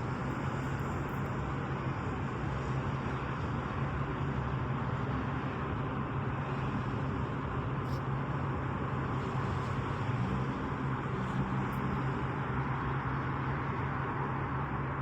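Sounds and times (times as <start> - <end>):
constant low hum: 0.0 - 15.0
road traffic: 0.0 - 15.0.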